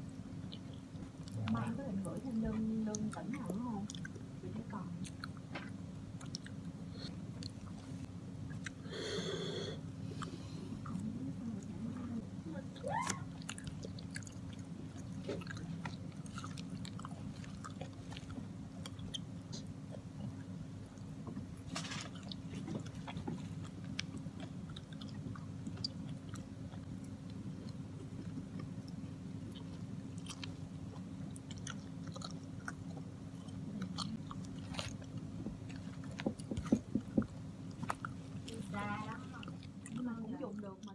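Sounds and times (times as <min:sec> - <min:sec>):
chewing with small crunches: 0:00.0 - 0:08.9, 0:09.9 - 0:40.9
steady low hum: 0:00.0 - 0:40.9.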